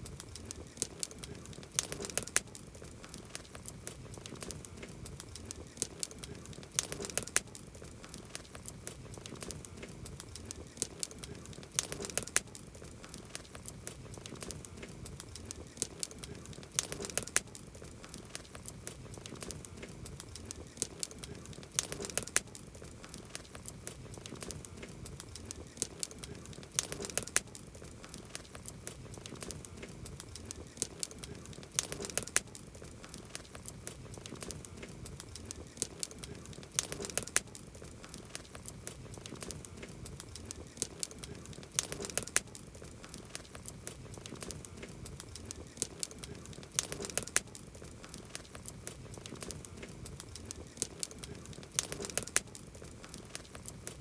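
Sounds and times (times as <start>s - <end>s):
campfire crackling and popping: 0.0s - 54.0s
soft fire hiss: 0.0s - 54.0s.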